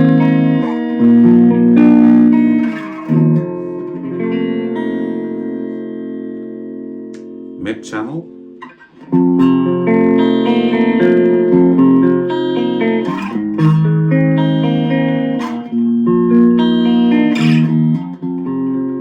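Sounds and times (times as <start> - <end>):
clean electric guitar chords: 0.0 - 19.0.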